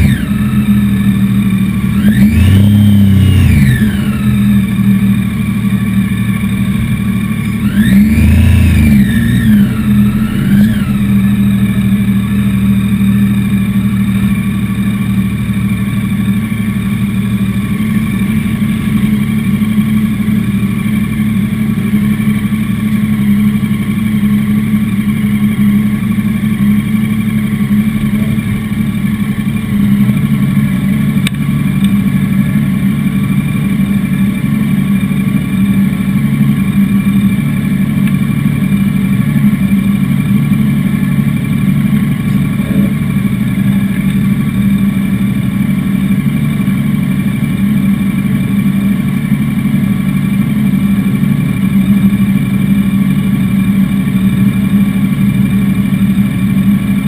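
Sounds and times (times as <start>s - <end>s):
motorcycle engine revving: 0.0s - 57.0s
motorcycle engines idling: 0.0s - 57.0s.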